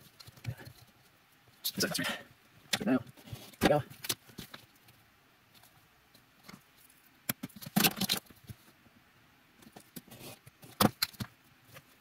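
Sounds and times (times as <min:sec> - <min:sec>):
clicks scrapes and rustles: 0:00.0 - 0:01.9, 0:02.7 - 0:08.8, 0:09.6 - 0:12.0.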